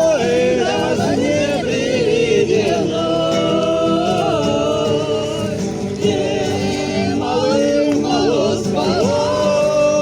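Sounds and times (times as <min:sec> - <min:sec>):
voices singing unaccompanied: 0:00.0 - 0:10.0.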